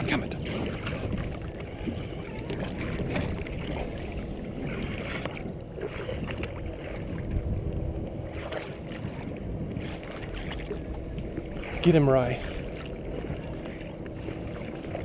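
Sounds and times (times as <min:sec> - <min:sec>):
water lapping against boat: 0:00.0 - 0:15.0
wind on microphone: 0:00.0 - 0:15.0.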